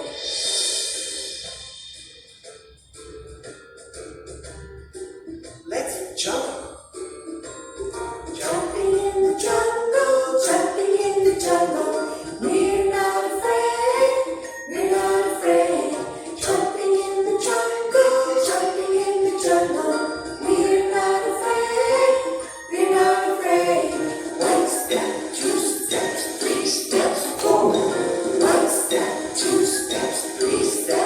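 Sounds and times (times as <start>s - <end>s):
children's song with bell percussion: 0.0s - 31.0s.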